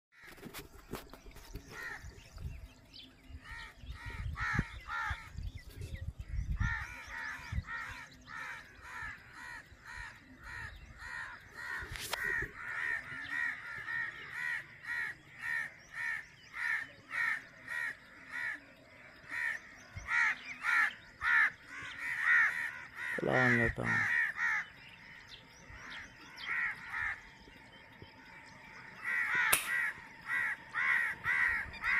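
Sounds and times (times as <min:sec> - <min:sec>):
crow cawing: 0:03.5 - 0:05.4, 0:06.6 - 0:27.5, 0:28.9 - 0:31.9.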